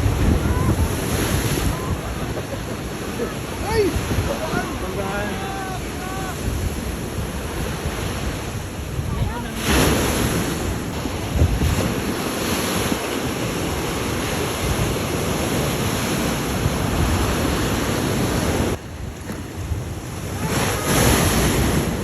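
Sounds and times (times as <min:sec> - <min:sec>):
ocean surf washing: 0:00.0 - 0:22.0
wind buffeting microphone: 0:00.0 - 0:22.0.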